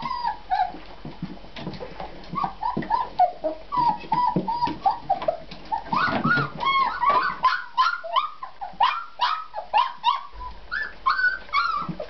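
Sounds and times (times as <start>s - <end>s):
puppies crying: 0.0s - 0.8s, 2.3s - 12.0s.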